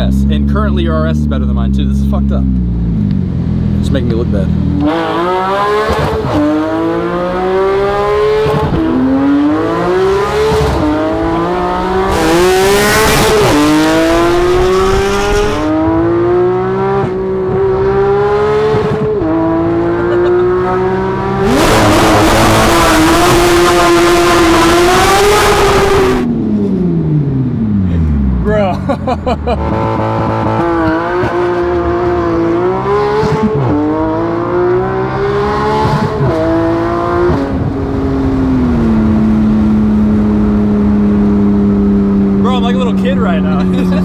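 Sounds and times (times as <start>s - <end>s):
sports car engine accelerating hard: 0.0s - 44.0s.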